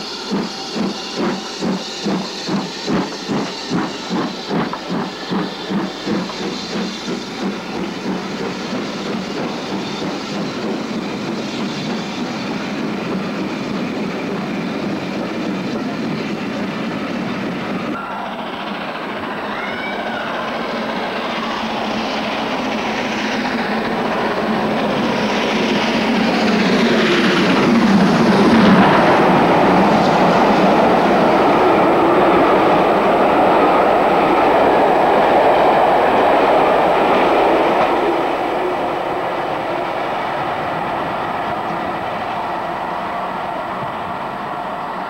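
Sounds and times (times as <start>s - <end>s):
steam train passing: 0.0s - 45.0s.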